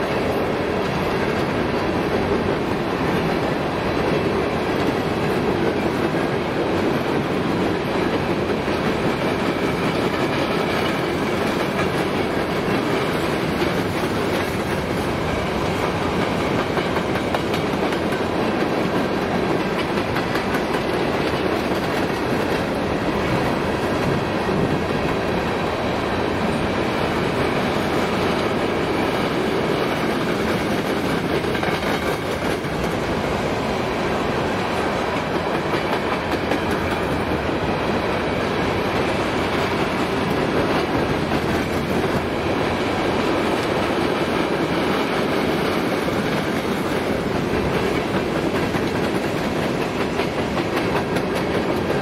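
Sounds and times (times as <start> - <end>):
steel wheels clicking over rail joints: 0.0 - 25.7, 27.5 - 33.3, 34.8 - 37.5, 43.3 - 52.0.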